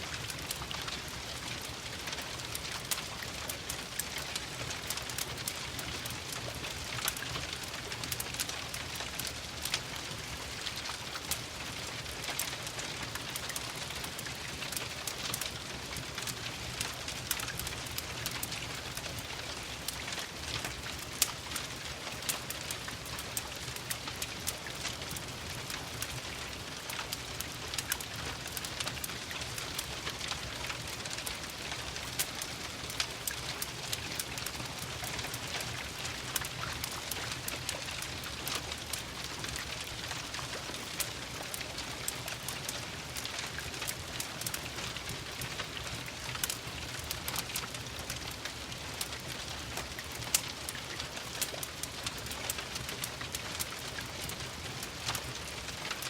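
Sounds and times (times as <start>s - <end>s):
rain pattering: 0.0s - 56.0s
wood fire popping and crackling: 0.1s - 56.0s.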